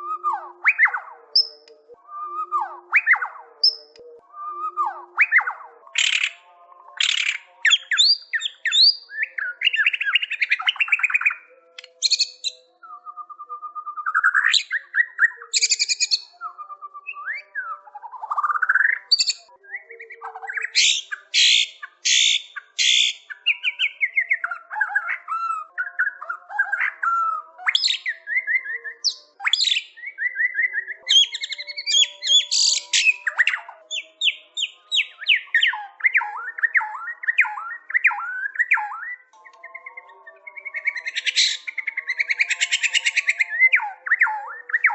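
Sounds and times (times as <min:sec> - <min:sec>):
bird singing whistles and trills: 0:00.0 - 0:44.9.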